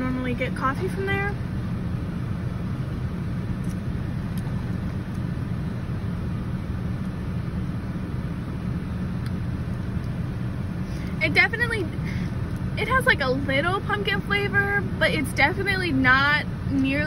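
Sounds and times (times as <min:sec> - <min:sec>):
car engine idling rumble: 0:00.0 - 0:17.0.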